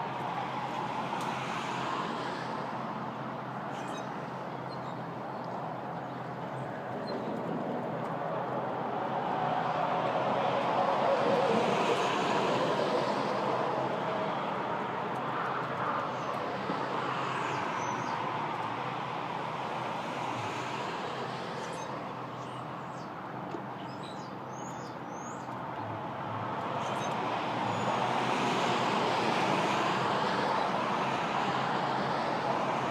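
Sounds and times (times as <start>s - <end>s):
road traffic passing: 0.0s - 32.9s.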